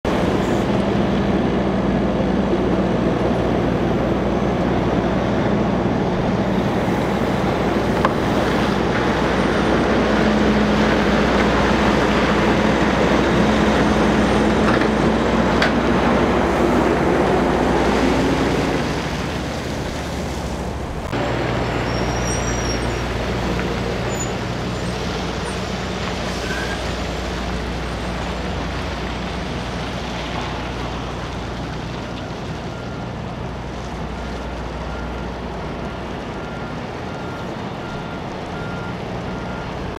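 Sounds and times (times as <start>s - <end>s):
diesel truck engine passing: 0.1s - 39.9s.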